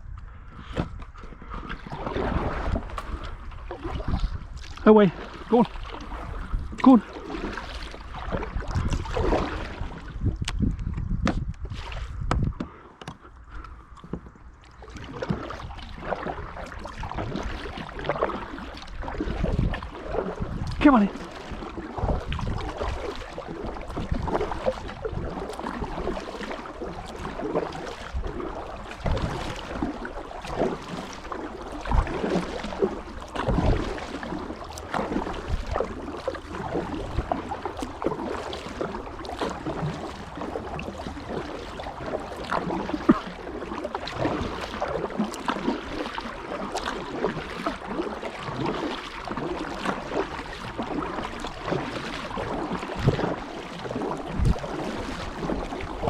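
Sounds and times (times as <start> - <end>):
kayak paddle splashing water: 0.0 - 56.0.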